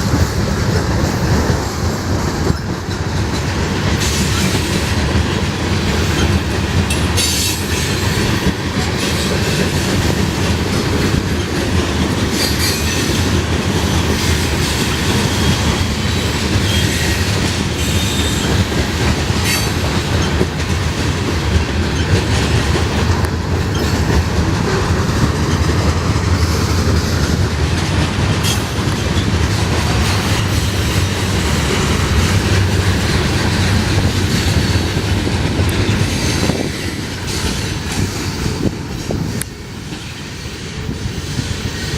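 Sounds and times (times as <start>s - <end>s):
train wheels rumbling on rails: 0.0s - 41.9s
wheels clicking over rail joints: 0.0s - 41.9s.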